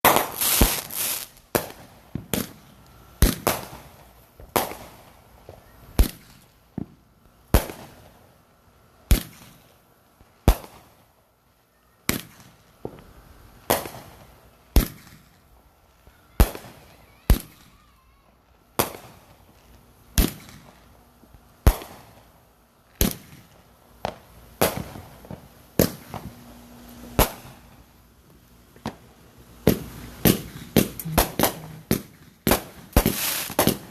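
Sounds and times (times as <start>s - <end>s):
fireworks bangs: 0.0s - 8.2s, 12.1s - 15.5s, 16.1s - 22.3s, 23.0s - 33.9s.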